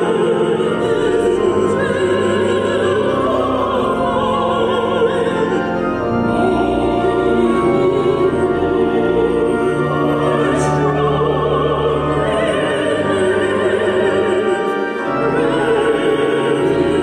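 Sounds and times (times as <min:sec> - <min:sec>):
voices singing with vibrato: 0:00.0 - 0:17.0.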